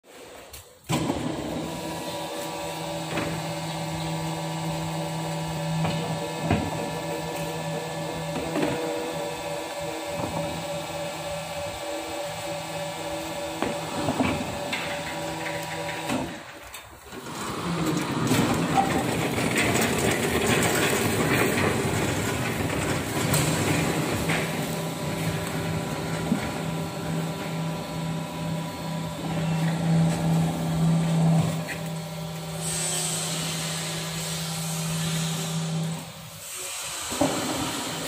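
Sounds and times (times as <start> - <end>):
rough mechanical noise: 0.1 - 38.0.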